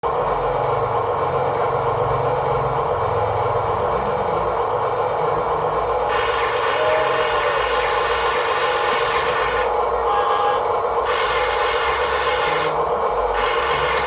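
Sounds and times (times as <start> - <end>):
machinery engine rumbling: 0.0 - 14.0.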